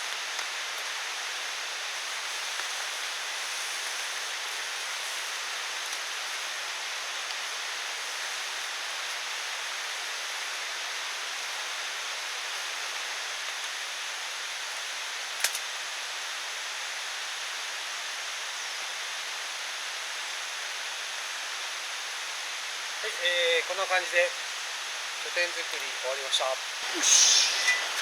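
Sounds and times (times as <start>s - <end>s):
steady rainfall: 0.0s - 28.0s.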